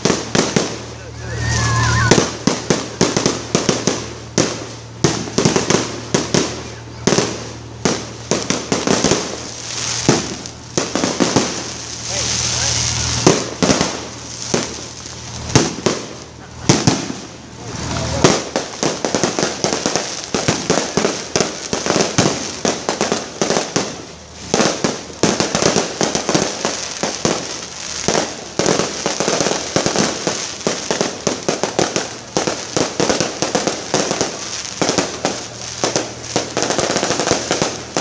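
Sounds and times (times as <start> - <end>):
fireworks cracking and popping: 0.0 - 38.0.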